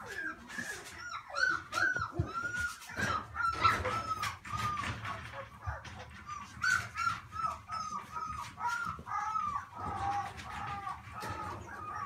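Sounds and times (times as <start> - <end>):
puppy whining yips: 0.0 - 12.0.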